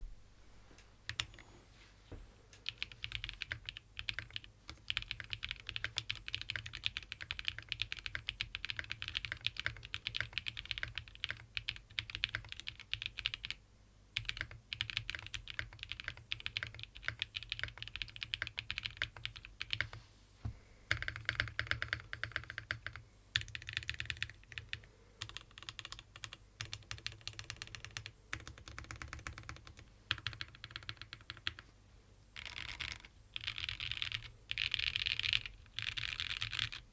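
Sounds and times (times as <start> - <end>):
typing on mechanical keyboard: 1.1 - 1.5, 2.6 - 13.6, 14.2 - 20.0, 20.9 - 31.6, 32.4 - 36.8.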